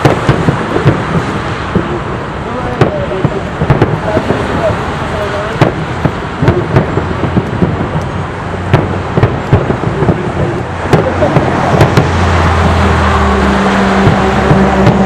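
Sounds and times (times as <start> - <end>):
fireworks bursting with bangs: 0.0 - 15.0
fireworks rumble and crackle: 0.0 - 15.0.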